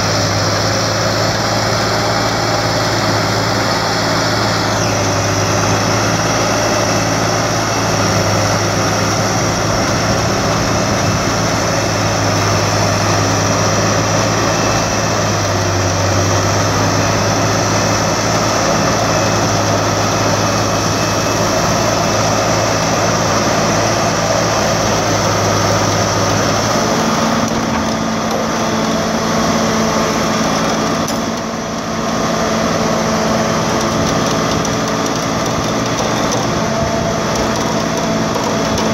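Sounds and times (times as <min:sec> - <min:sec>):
tow truck diesel engine running: 0:00.0 - 0:38.9.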